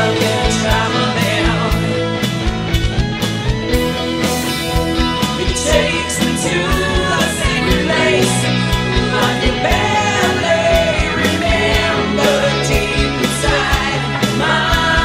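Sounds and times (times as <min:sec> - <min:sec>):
rock song with vocals: 0:00.0 - 0:15.0.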